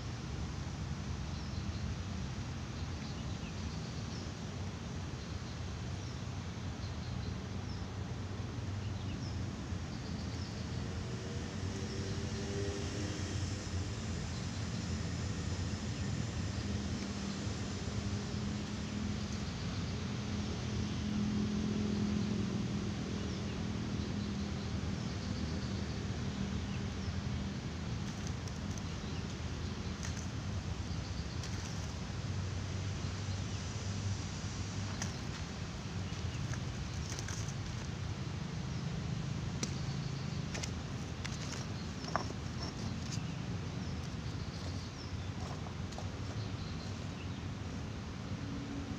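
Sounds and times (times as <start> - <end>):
low outdoor rumble: 0.0 - 48.9.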